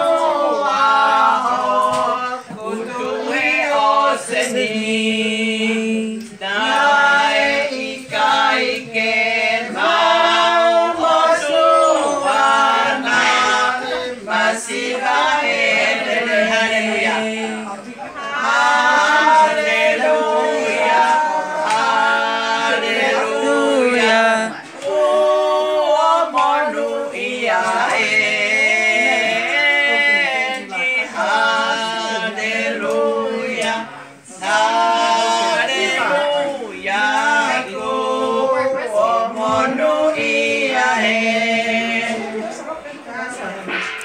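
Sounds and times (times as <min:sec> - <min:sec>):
voices singing together: 0:00.0 - 0:44.0.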